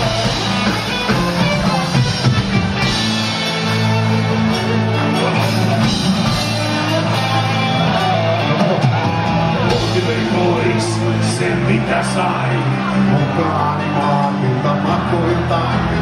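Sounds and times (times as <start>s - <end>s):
bass guitar: 0.0s - 16.0s
drums: 0.0s - 16.0s
electric guitars: 0.0s - 16.0s.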